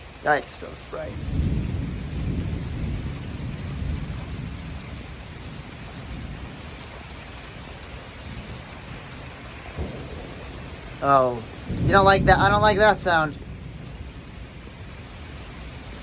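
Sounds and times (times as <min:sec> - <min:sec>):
rain hissing: 0:00.0 - 0:16.0
thunder rumbling: 0:00.0 - 0:16.0.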